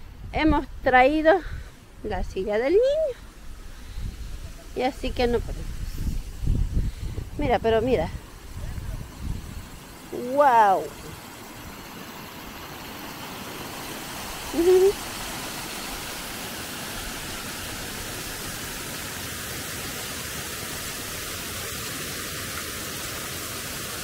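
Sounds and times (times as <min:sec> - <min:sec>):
waterfall rushing into a stream: 0:03.2 - 0:24.0.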